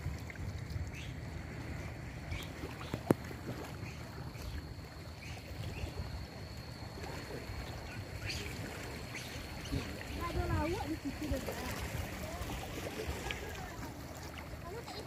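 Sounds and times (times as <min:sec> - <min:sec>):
faint water sounds: 0:00.0 - 0:15.0
low steady rumble: 0:00.0 - 0:15.0.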